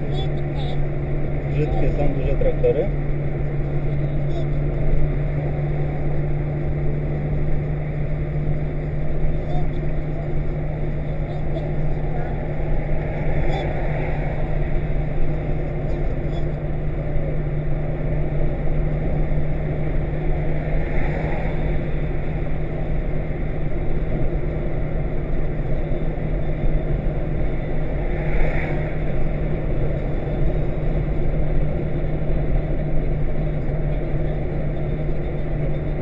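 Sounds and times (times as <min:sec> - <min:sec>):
car engine drone: 0:00.0 - 0:36.0
tyres rumbling on road: 0:00.0 - 0:36.0.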